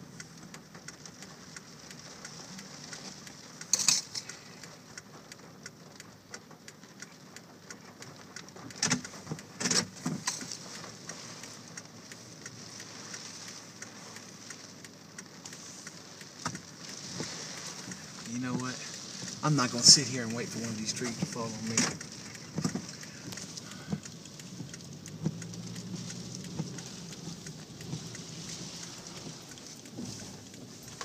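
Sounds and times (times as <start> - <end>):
heavy rain pattering: 0.0 - 31.0.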